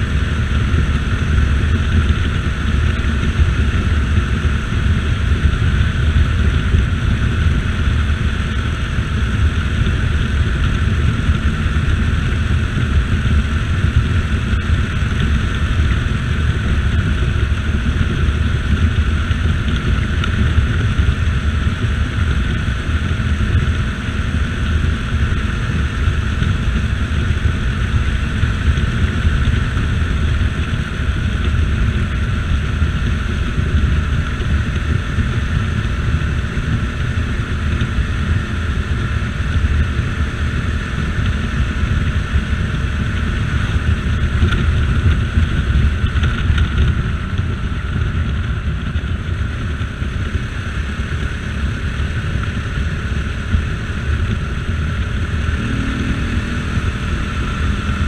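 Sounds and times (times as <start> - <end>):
motorcycle engine humming: 0.0 - 58.0.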